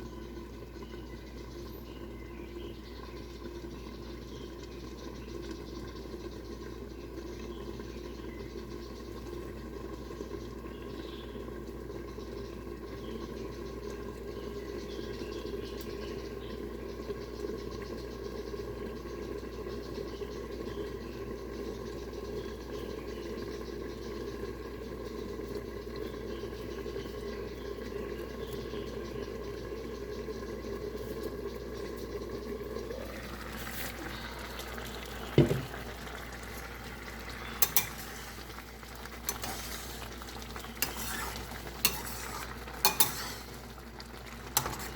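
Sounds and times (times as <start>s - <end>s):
porridge bubbling in a pot: 0.0s - 44.9s.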